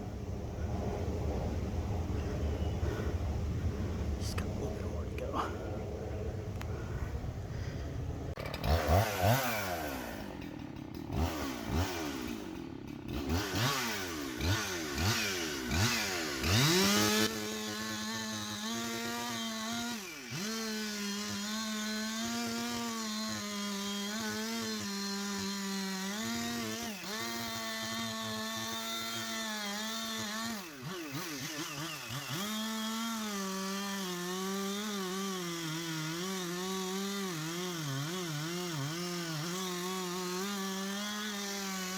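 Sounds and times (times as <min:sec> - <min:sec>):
chainsaw revving and cutting wood: 0:06.6 - 0:41.9.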